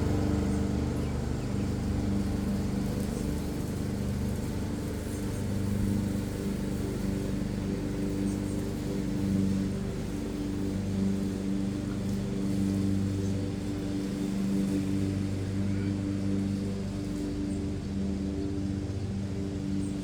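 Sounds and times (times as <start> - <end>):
low mechanical motor hum: 0.0 - 20.0.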